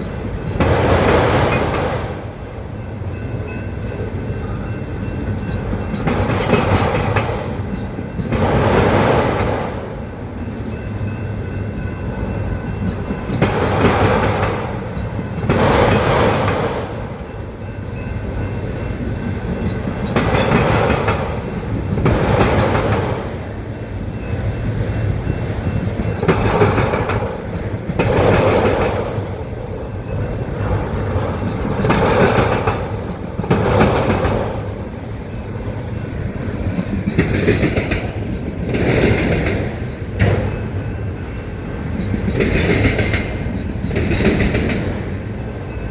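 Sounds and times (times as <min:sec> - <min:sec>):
freight cars rolling rumble: 0:00.0 - 0:45.9
wheels clattering over rail joints: 0:00.0 - 0:45.9.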